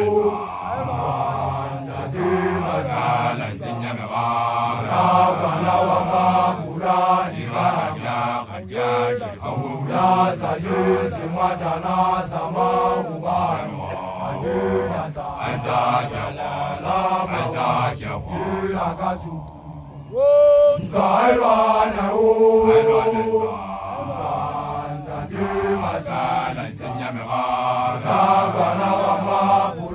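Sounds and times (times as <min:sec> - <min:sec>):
men chanting together: 0:00.0 - 0:29.9.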